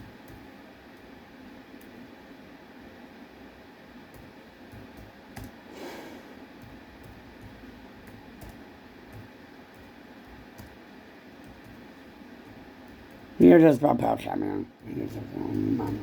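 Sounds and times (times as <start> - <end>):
low room hiss: 0.0 - 16.0.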